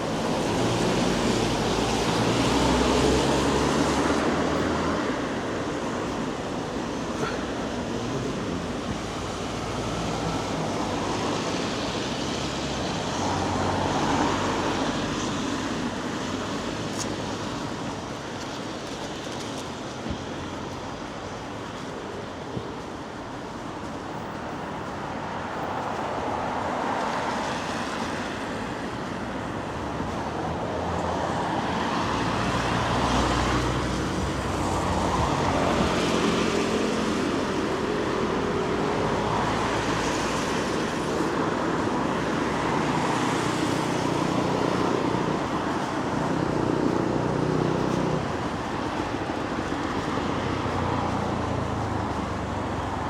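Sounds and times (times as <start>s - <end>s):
close vehicle engine hum: 0.0s - 18.5s, 27.4s - 53.0s
street traffic: 0.0s - 53.0s.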